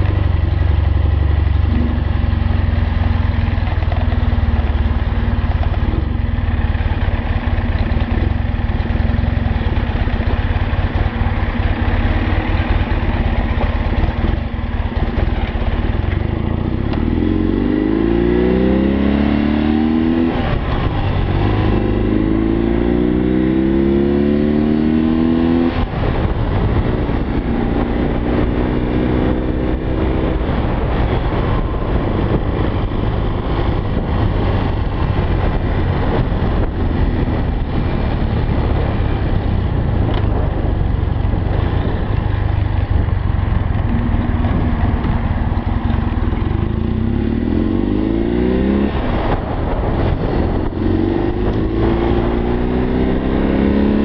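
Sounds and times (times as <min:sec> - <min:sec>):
motorcycle engine accelerating: 0:00.0 - 0:54.0
wind rush and road noise: 0:00.0 - 0:54.0.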